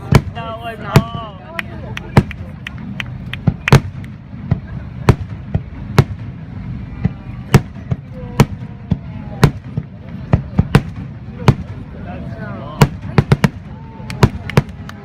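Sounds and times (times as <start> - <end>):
fireworks bangs: 0.0 - 15.0
low rumble: 0.0 - 15.0.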